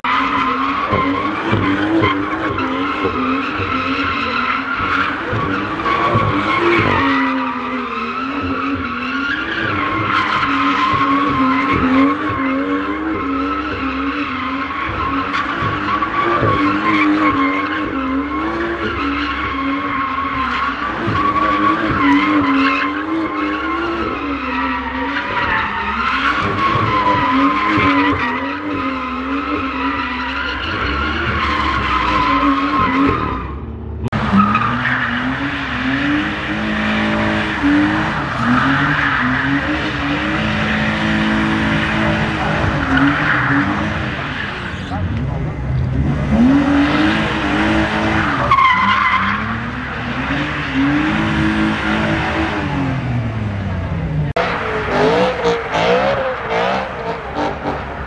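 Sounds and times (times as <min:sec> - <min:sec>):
car engine revving high: 0:00.0 - 0:58.0
tyres skidding and squealing: 0:00.0 - 0:58.0.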